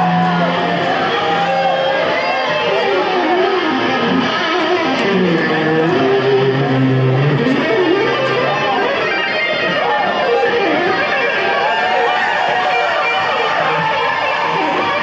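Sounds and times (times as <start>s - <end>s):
electric guitar bent notes: 0.0s - 15.0s
rock band playing live: 0.0s - 15.0s.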